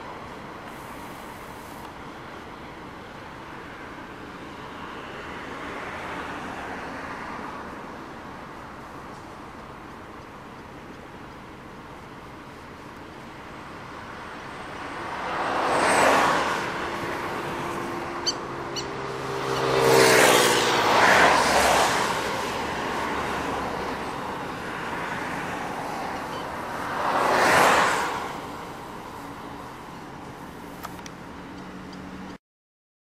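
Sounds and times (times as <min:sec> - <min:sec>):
cars passing close by: 0:00.0 - 0:32.4.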